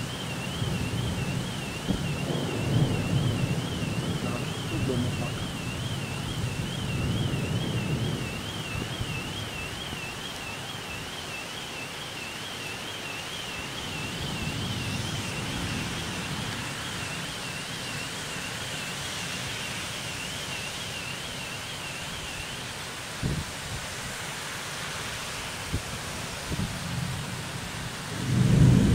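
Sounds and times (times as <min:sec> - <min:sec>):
car alarm warbling: 0:00.0 - 0:23.4
heavy rain pouring: 0:00.0 - 0:28.9.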